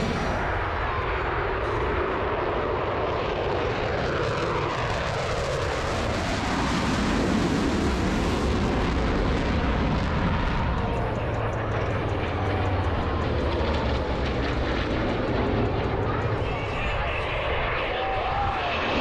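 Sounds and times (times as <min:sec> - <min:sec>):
airplane engine flying past: 0:00.0 - 0:19.0.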